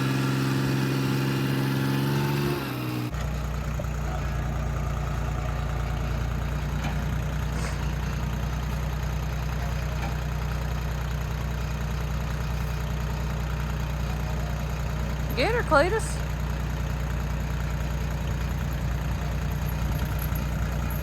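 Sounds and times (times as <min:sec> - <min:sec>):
farm vehicle engine humming: 0:00.0 - 0:21.0.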